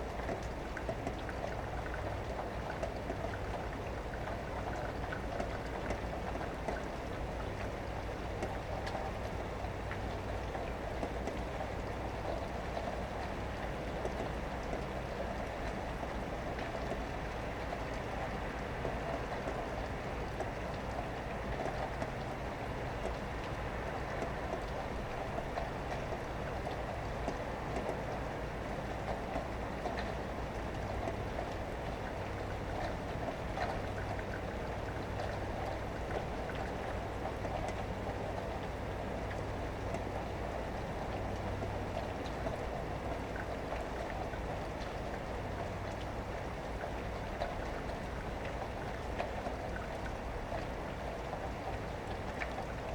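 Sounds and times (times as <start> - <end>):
low rumble of vehicles: 0.0 - 52.9
steady rain falling: 0.0 - 52.9.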